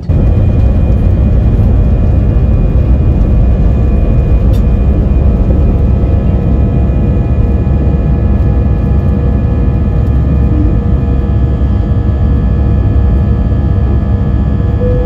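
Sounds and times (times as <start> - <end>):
jet engines roaring: 0.0 - 14.9
steady whining tones: 0.0 - 15.0.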